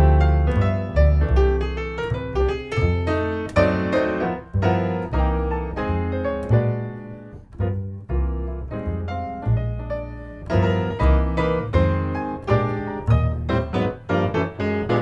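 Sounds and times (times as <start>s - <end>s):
piano playing swing: 0.0s - 15.0s
plucked double bass: 0.0s - 15.0s.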